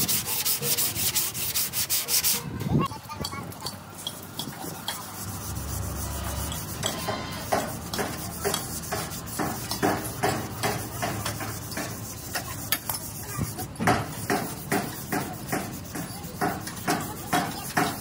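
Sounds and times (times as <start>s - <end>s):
sandpaper rubbing sheet metal: 0.0s - 2.9s, 4.0s - 18.0s.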